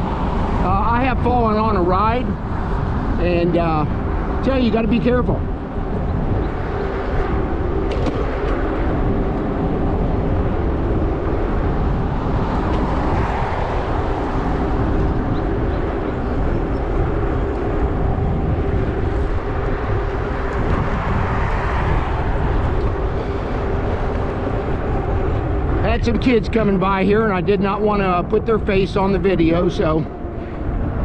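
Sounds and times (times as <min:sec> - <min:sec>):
road hum: 0:00.0 - 0:31.0
steady pitched drone: 0:00.0 - 0:31.0
wind rumble on microphone: 0:00.0 - 0:31.0.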